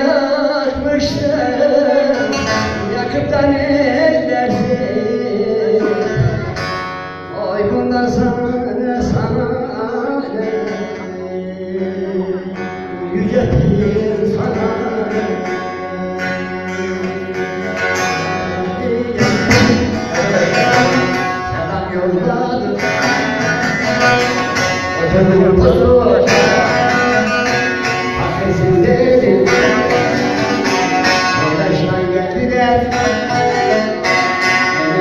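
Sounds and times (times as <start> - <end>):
long-necked lute strummed and plucked: 0.0 - 35.0
person singing: 0.0 - 35.0.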